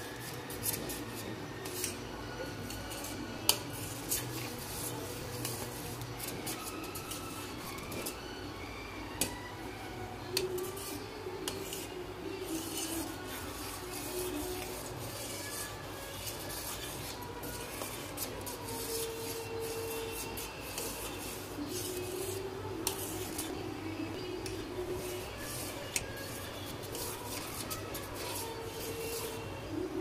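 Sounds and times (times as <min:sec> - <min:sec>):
spoon scraping metal pot: 0:00.0 - 0:08.2, 0:10.2 - 0:29.5.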